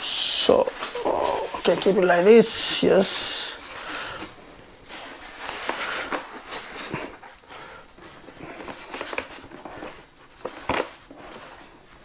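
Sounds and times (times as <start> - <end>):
foam model and packaging rustling: 0.0 - 12.0.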